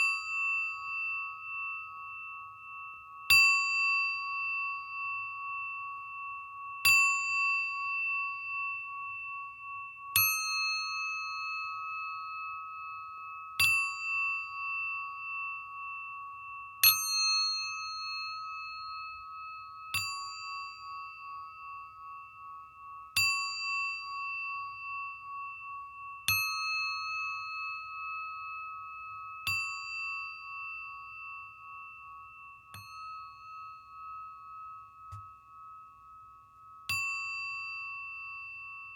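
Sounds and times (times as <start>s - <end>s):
singing bowl ringing: 0.0s - 38.9s.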